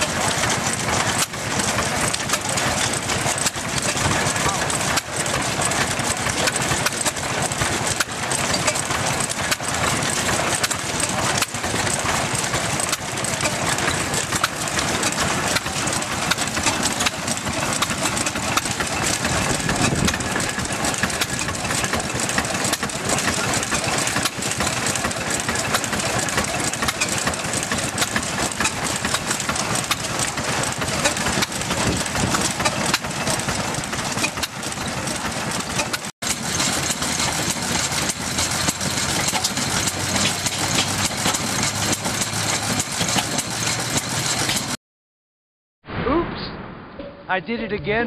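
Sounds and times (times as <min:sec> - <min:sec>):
stationary engine clattering: 0:00.0 - 0:44.8.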